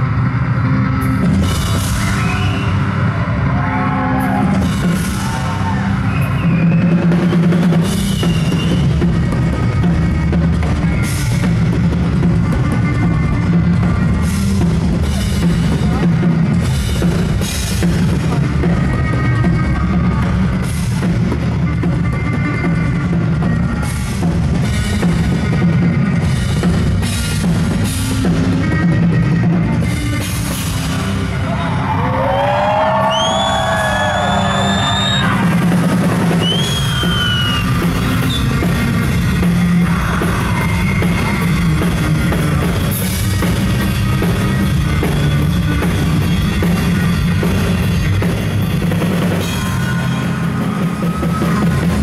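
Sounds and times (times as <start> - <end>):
drums: 0.0 - 52.0.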